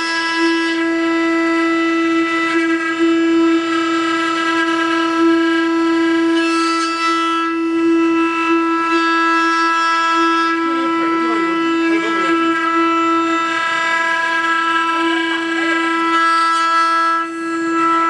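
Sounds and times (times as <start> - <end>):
wood router spindles whining: 0.0 - 18.0.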